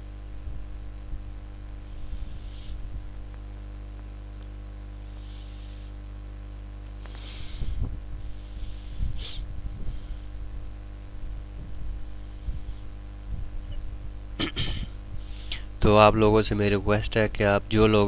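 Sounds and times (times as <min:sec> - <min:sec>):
electrical hum: 0:00.0 - 0:18.0
high-pitched whine: 0:00.0 - 0:18.0.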